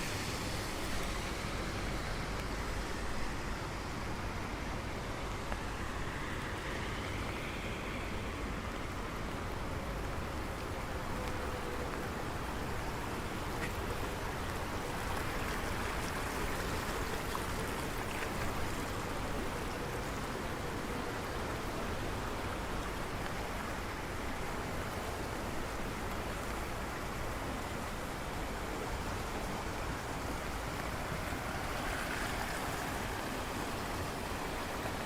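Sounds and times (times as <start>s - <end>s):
rushing water: 0.0s - 35.0s
steady rain: 0.0s - 35.0s.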